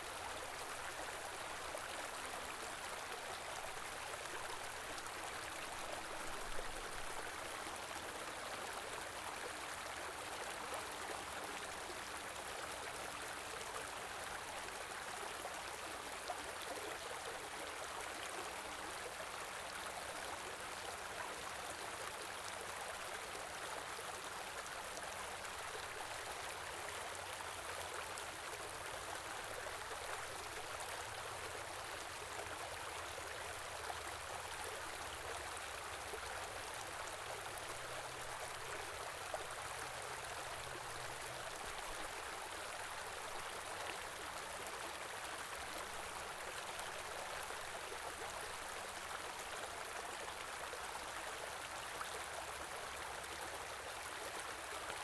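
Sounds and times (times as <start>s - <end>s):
stream of running water: 0.0s - 55.0s.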